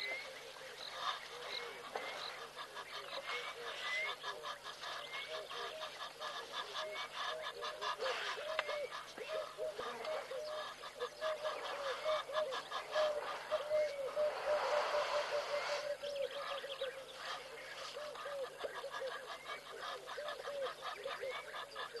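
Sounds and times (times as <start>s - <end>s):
chorus of animals calling: 0.0s - 22.0s.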